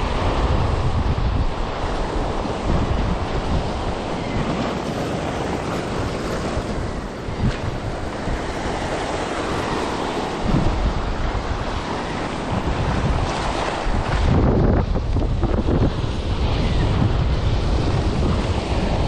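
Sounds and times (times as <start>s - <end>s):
ocean surf breaking on rocks: 0.0s - 19.0s
wind buffeting microphone: 0.0s - 19.0s.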